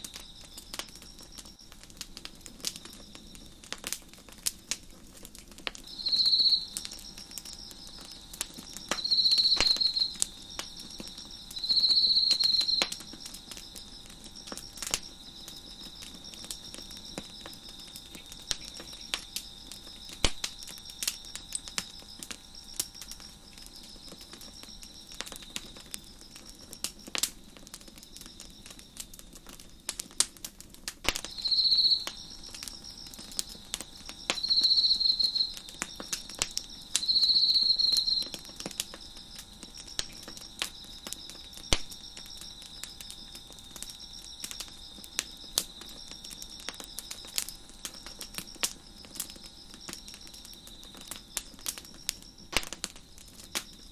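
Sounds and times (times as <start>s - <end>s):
crickets chirping: 0.0s - 53.9s
wood fire crackling: 0.0s - 53.9s
close cricket trilling loudly: 5.8s - 30.2s, 31.1s - 53.9s.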